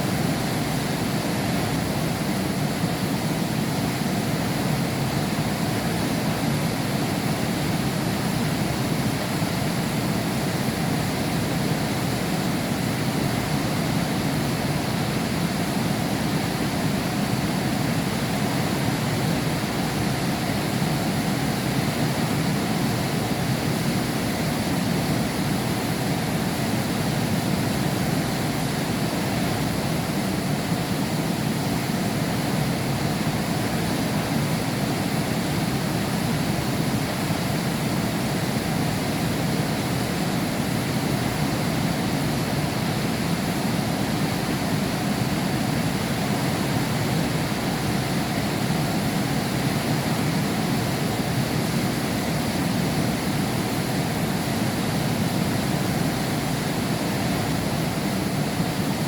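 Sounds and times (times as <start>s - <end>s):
heavy rain behind a window: 0.0s - 59.0s.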